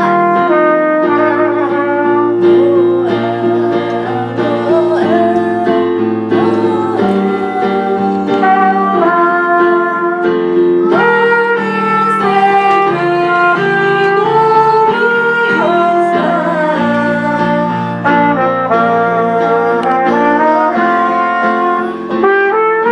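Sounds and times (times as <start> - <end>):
held music chords: 0.0 - 22.9.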